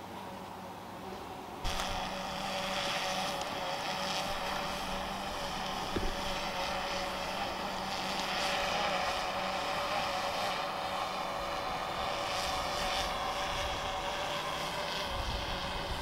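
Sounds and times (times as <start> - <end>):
drone propellers buzzing: 1.6 - 16.0.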